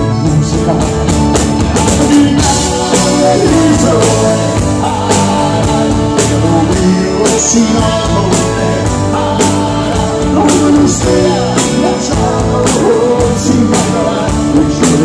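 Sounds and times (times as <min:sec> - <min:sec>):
drums with steady beat: 0:00.0 - 0:15.0
electric guitar: 0:00.0 - 0:15.0
keyboards: 0:00.0 - 0:15.0
man singing into microphone: 0:00.0 - 0:15.0.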